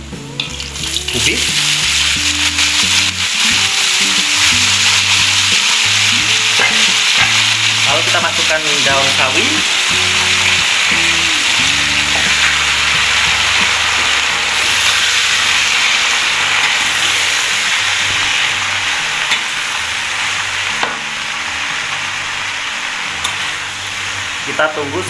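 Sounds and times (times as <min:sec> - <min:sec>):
vegetables sizzling in a wok: 0:00.0 - 0:25.0.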